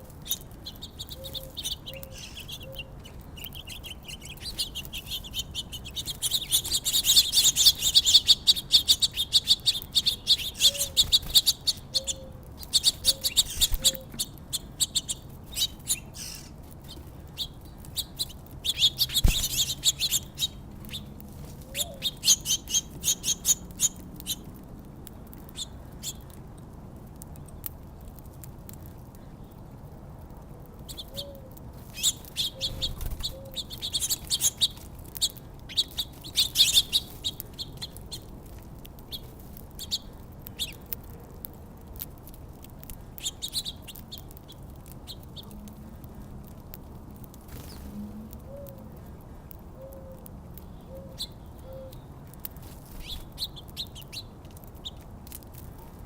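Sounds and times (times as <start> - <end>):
songbirds chirping: 0.0 - 26.6, 27.3 - 41.1, 42.9 - 56.0.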